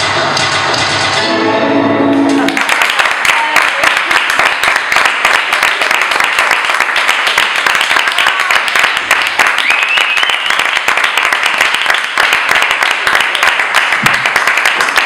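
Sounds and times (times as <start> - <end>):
audience applauding: 2.1 - 15.0.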